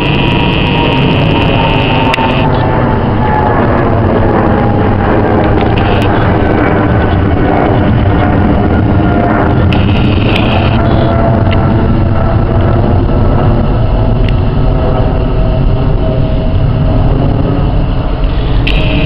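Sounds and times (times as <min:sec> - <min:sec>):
faint engine tones: 0:00.0 - 0:19.0
jet engine rumble overhead: 0:00.0 - 0:19.0.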